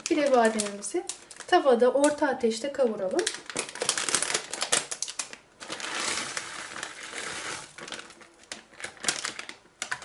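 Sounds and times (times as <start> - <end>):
packet crinkling: 0.0 - 2.2, 3.1 - 10.0.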